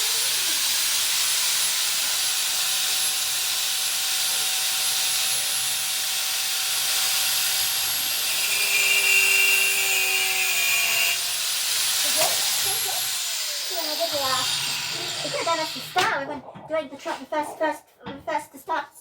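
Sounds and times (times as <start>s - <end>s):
angle grinder cutting steel: 0.0s - 16.2s.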